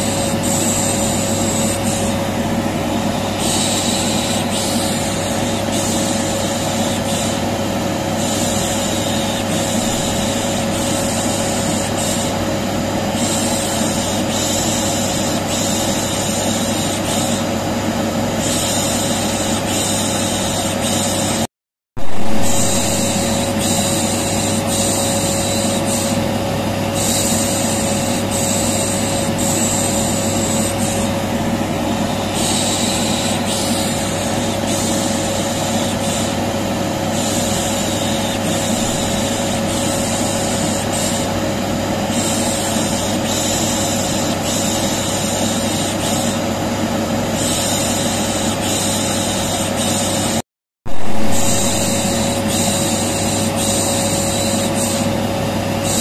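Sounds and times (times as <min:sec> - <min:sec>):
vacuum cleaner running: 0:00.0 - 0:21.4, 0:22.0 - 0:56.0.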